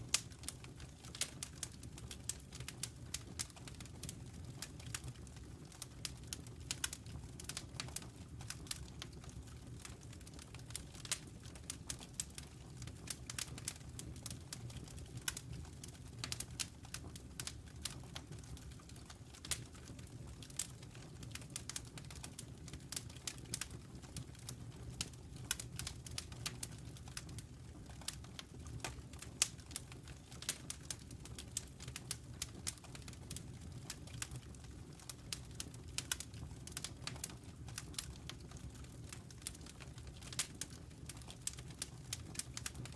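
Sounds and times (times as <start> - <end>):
log fire crackling: 0.0 - 42.9
low rumble of flames: 0.0 - 42.9.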